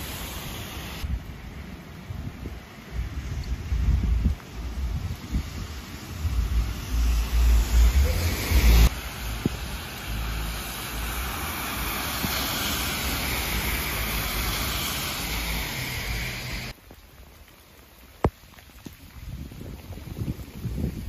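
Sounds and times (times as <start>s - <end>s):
wind gusting against microphone: 0.0s - 16.8s, 18.8s - 21.0s
rain falling on pavement: 0.0s - 21.0s
water running along curb: 0.0s - 21.0s.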